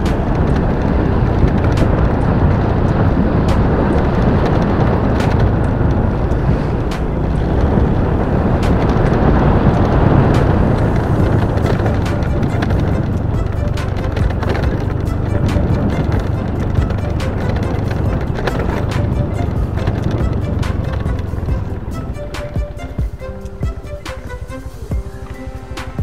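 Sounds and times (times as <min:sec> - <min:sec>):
motorcycle engine rumble: 0:00.0 - 0:26.0
road noise: 0:00.0 - 0:26.0
sharp clicks: 0:00.0 - 0:26.0.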